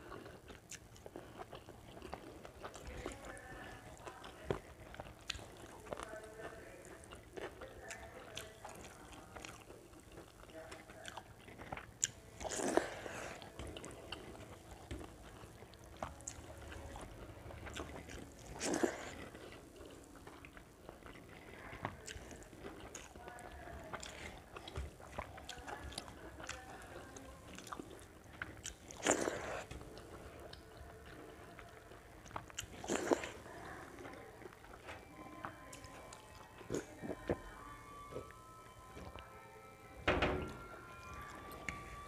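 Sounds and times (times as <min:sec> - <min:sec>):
person chewing and smacking: 0:00.0 - 0:38.4.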